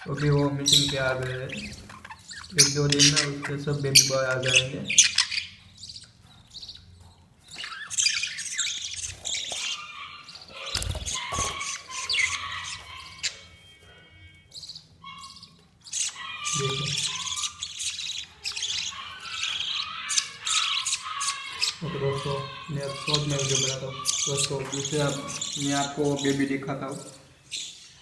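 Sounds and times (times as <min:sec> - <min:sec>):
budgerigars chirping and squawking: 0:00.0 - 0:28.0.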